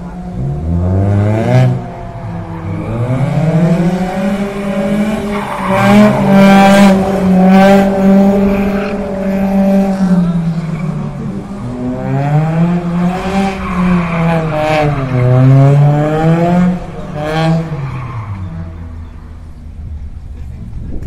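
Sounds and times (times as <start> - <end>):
car engine revving hard: 0.0 - 17.9.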